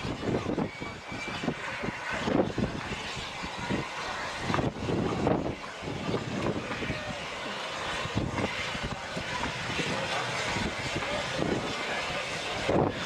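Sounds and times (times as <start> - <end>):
hiss of steam: 0.0 - 13.0
steam locomotive exhaust beats: 0.0 - 13.0.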